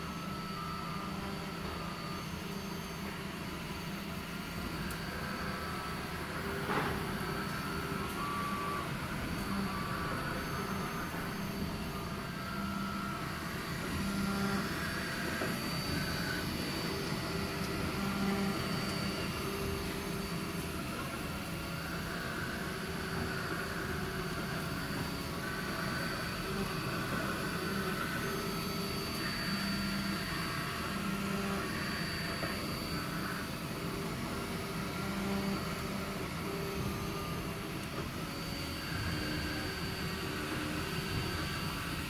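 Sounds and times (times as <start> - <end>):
fans whirring: 0.0 - 42.0
stepper motors whining: 0.1 - 42.0.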